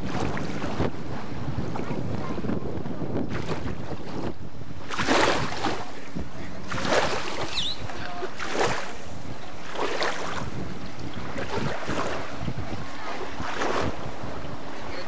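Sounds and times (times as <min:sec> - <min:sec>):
water washing against hull: 0:00.0 - 0:15.0
wind noise on microphone: 0:00.0 - 0:15.0.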